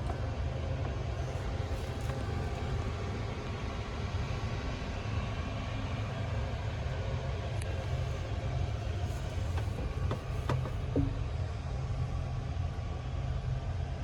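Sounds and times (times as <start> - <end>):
airplane cabin rumble: 0.0 - 13.6.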